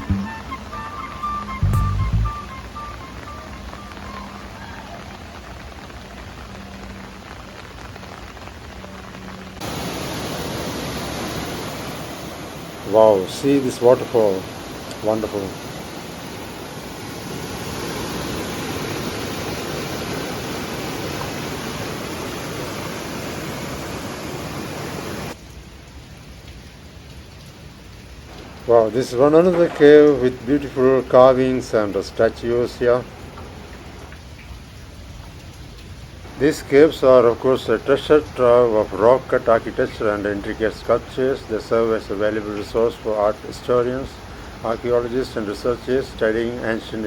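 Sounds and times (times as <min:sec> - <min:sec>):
rain: 0:00.0 - 0:47.0
rushing waterfall: 0:00.0 - 0:47.0.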